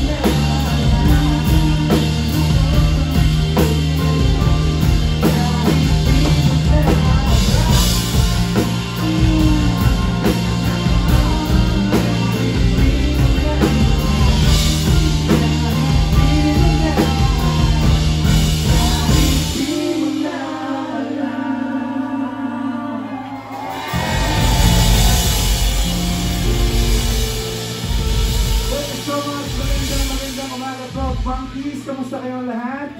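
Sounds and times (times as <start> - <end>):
rock band playing: 0.0 - 21.0, 23.2 - 32.9
lead vocals: 0.0 - 32.9.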